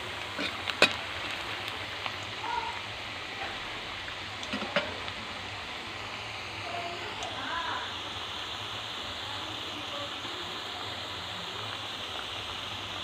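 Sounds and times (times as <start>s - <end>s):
fries sizzling in hot oil: 0.0s - 13.0s.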